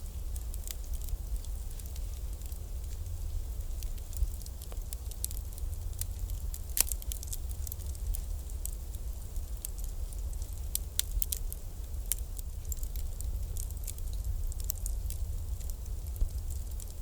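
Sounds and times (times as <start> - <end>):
bonfire crackling and popping: 0.0 - 17.0
low fire rumble: 0.0 - 17.0.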